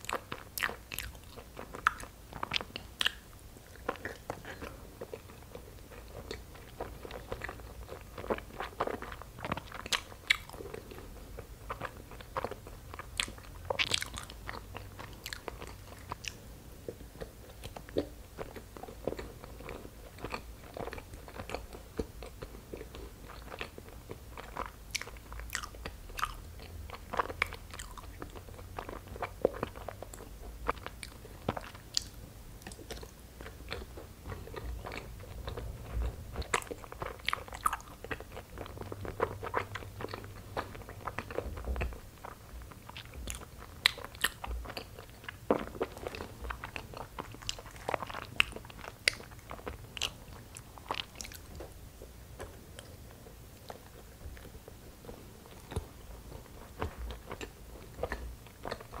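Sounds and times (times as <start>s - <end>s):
chewing rice cakes: 0.0s - 59.0s.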